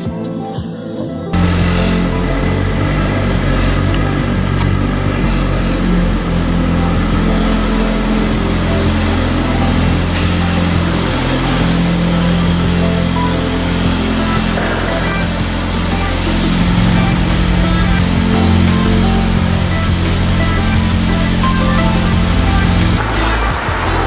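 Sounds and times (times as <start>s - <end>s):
car engine rumbling: 1.3s - 24.0s.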